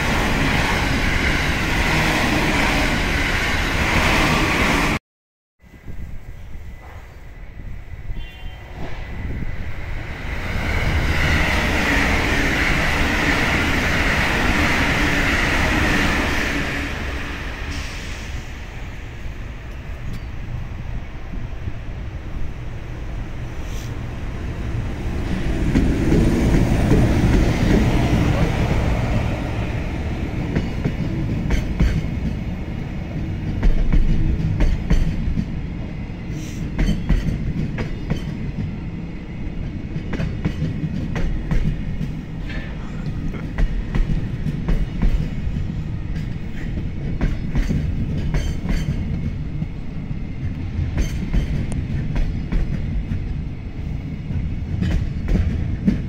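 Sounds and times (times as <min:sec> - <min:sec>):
locomotive rushing past: 0:06.6 - 0:56.0.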